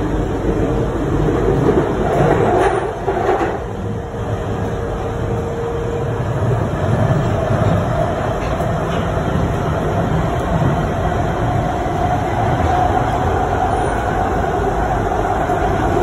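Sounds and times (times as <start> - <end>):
steady train whine: 0.0 - 16.0
train wheels and motors rumbling: 0.0 - 16.0.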